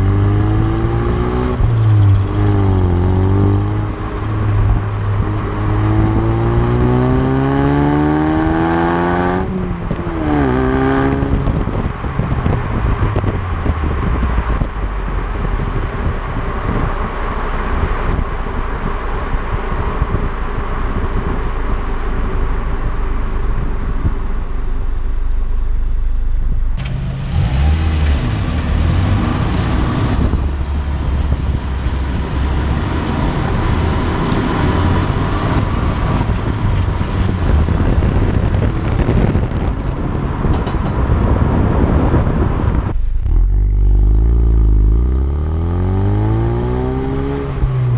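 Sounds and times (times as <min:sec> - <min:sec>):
car engine running: 0:00.0 - 0:47.9
road and wind noise: 0:00.0 - 0:47.9.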